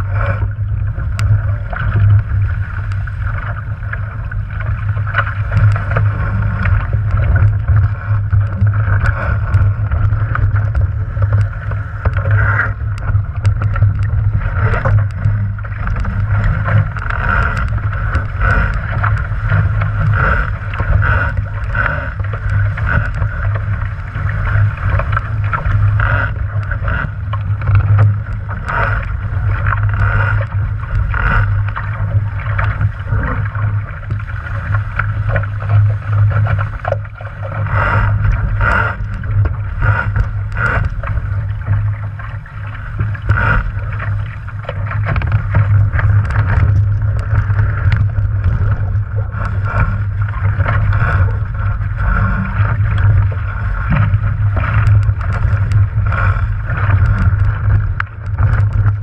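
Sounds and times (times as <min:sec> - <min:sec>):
water slapping along a hull: 0:00.0 - 0:59.0.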